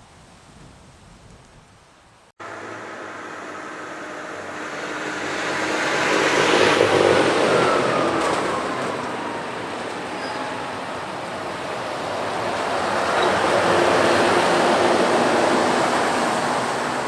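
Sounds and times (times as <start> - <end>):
lorry driving past with whine: 2.4 - 17.0.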